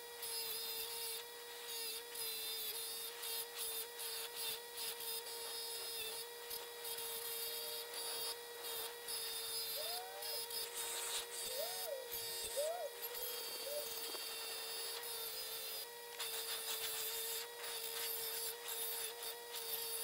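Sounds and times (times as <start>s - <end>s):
wire wheel motor hum: 0.0s - 20.0s
scratchy wire brushing metal: 3.1s - 20.0s.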